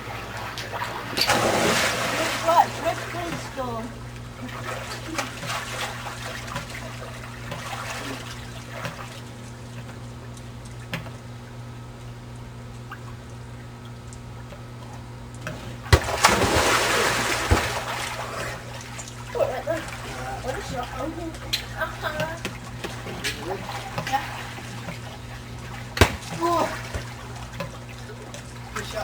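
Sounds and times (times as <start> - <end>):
water trickling: 0.0 - 29.0.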